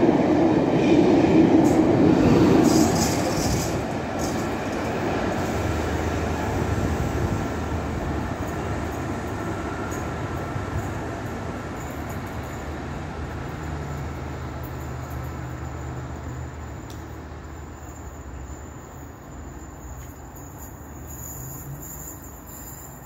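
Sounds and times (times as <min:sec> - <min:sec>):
diesel locomotive engines droning: 0:00.0 - 0:23.0.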